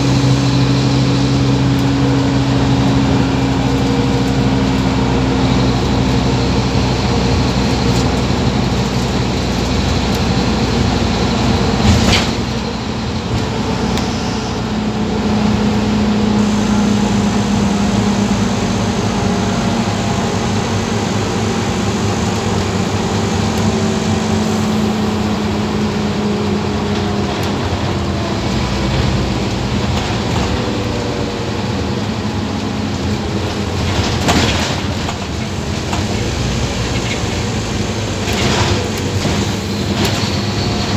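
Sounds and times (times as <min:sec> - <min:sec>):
bus engine running: 0:00.0 - 0:40.9
road noise: 0:00.0 - 0:40.9.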